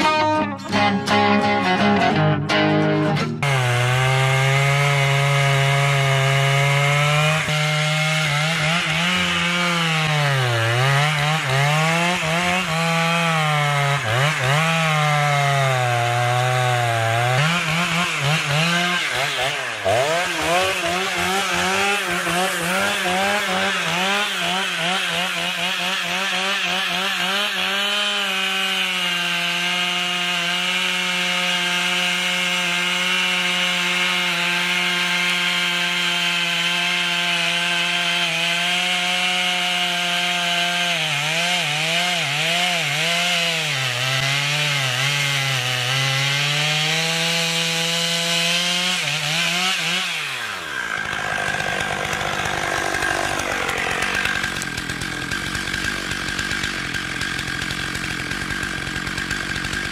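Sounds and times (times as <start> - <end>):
chainsaw cutting wood: 0.0 - 59.9
chainsaw idling: 3.2 - 59.9.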